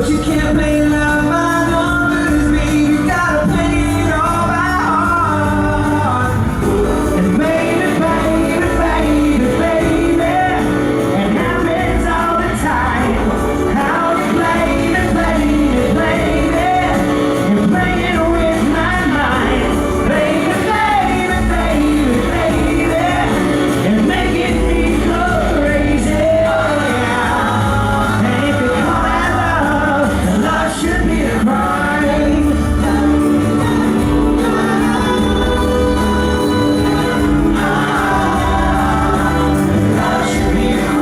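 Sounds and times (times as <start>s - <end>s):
band accompaniment: 0.0s - 41.0s
men singing in harmony: 0.0s - 41.0s.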